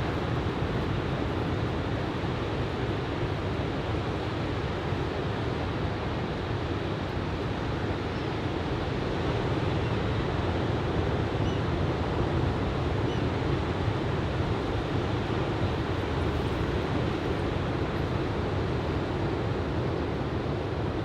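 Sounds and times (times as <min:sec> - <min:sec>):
waves breaking on a beach: 0:00.0 - 0:21.0.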